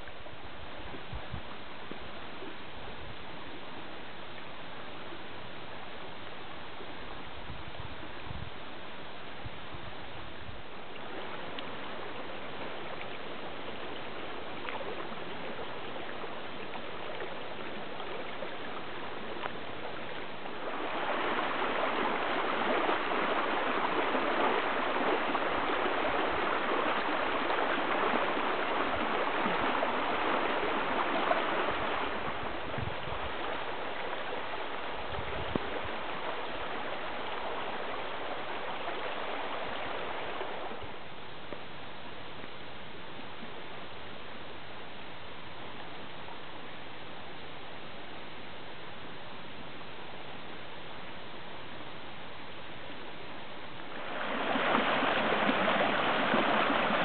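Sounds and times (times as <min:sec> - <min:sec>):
creek flowing water: 0:00.0 - 0:57.0.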